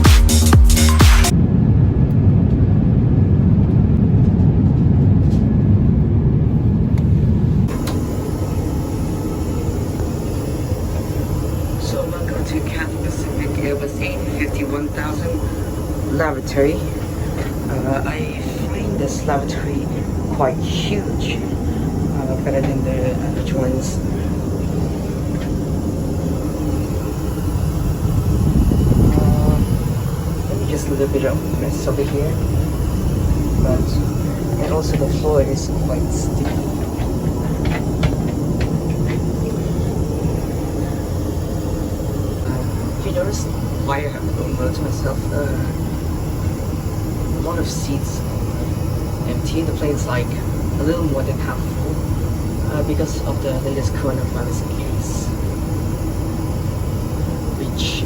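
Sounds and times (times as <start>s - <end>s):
airliner cabin rumble: 1.2s - 58.0s
high hiss: 7.6s - 58.0s.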